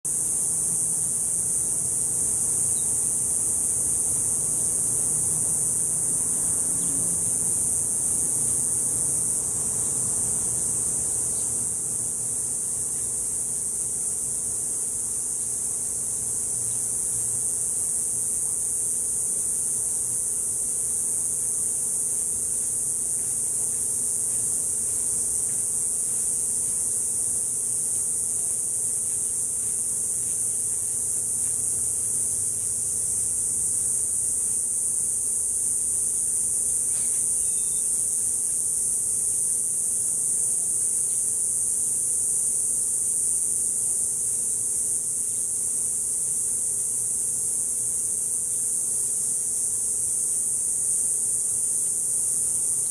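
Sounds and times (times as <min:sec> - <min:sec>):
cicadas buzzing: 0:00.0 - 0:52.9.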